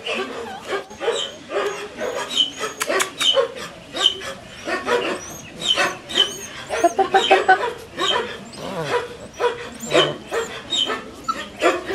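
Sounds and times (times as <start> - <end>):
puppies yapping: 0.0 - 11.9.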